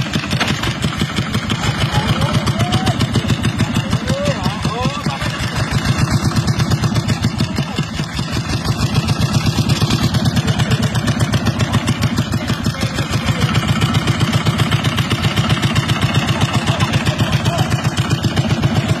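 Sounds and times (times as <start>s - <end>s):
engine chugging at low revs: 0.0s - 19.0s.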